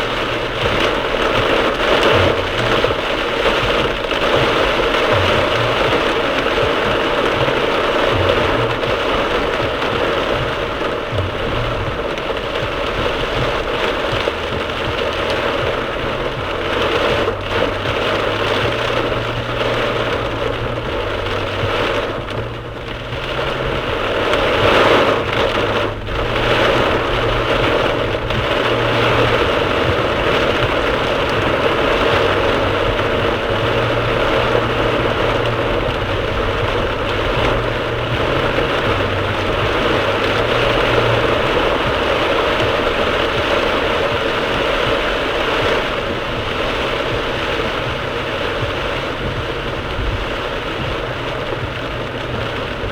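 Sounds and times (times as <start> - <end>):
rain on car roof: 0.0 - 52.9
road and engine rumble: 0.0 - 52.9.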